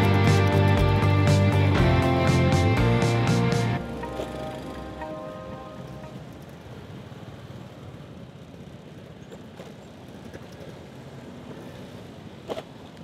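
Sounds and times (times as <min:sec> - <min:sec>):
motorbike engines rumbling: 0:00.0 - 0:12.9
tyre noise on road: 0:00.8 - 0:13.0.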